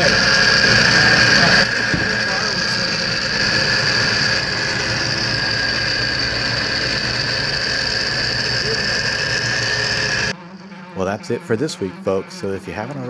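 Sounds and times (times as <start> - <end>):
metal lathe cutting with whine: 0.0 - 13.0.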